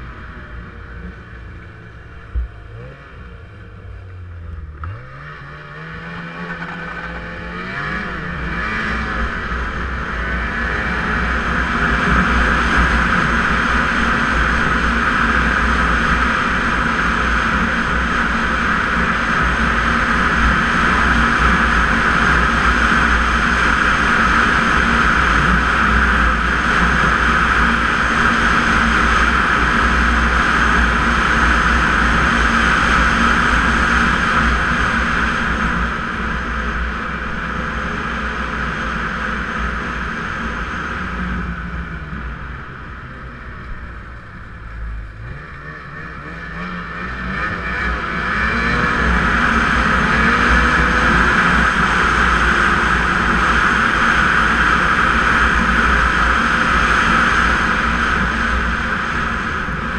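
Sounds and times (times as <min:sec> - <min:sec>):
snowmobile engine drone: 0:00.0 - 0:59.9.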